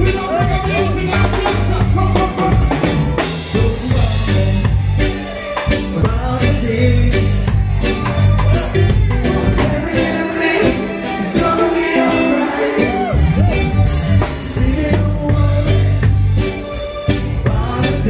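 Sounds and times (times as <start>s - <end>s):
man singing: 0.0s - 18.0s
reggae band playing: 0.0s - 18.0s.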